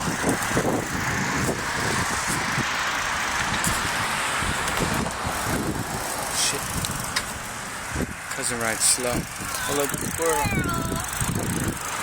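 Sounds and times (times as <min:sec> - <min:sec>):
wind buffeting microphone: 0:00.0 - 0:08.3, 0:09.0 - 0:12.0
rushing wind and road noise: 0:00.0 - 0:12.0.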